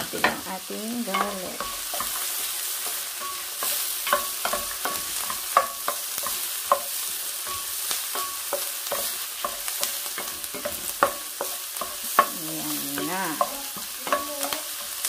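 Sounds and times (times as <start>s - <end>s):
onion sizzling in oil: 0.0s - 15.0s
spatula scraping and knocking pan: 0.1s - 15.0s.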